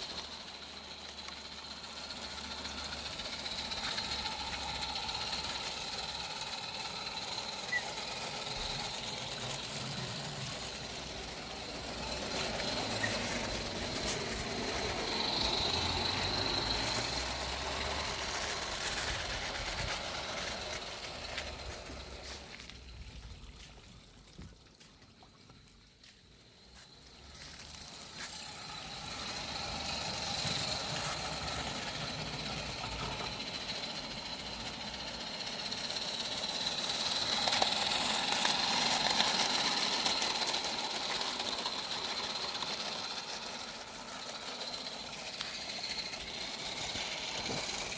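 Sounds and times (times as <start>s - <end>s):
model steam locomotive rattling: 0.0s - 47.9s.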